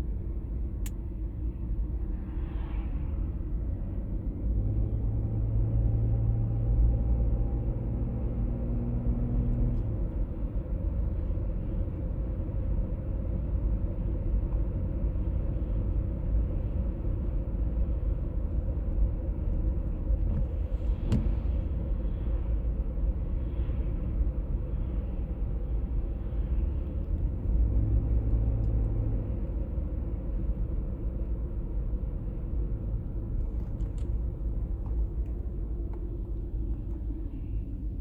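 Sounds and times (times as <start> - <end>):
road rumble: 0.0 - 38.0.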